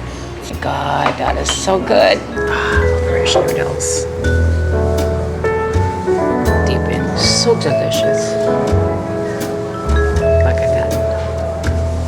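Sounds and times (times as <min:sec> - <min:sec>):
background music with held notes: 0:00.0 - 0:12.0
steady bass line: 0:00.0 - 0:12.0.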